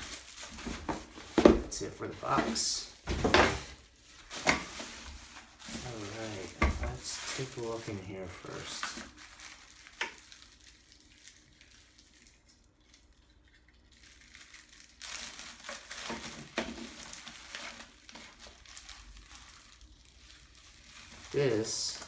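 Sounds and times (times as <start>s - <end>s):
packaging rustling and crinkling: 0.0s - 13.2s, 13.8s - 22.0s.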